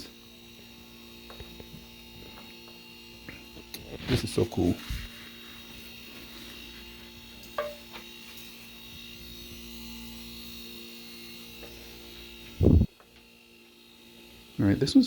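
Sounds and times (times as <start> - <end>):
compressors humming: 0.0 - 15.0.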